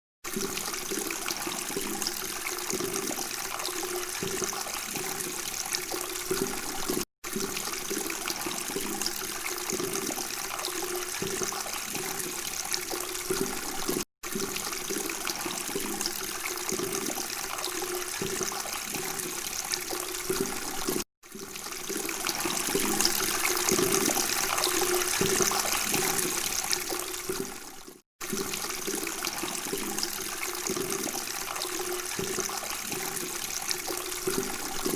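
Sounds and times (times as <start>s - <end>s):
water babbling and trickling: 0.2s - 34.9s.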